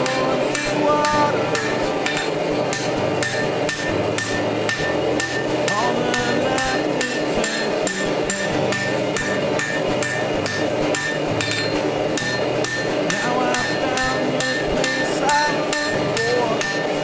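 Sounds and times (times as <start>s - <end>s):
hammer striking steel on anvil: 0.0s - 17.0s.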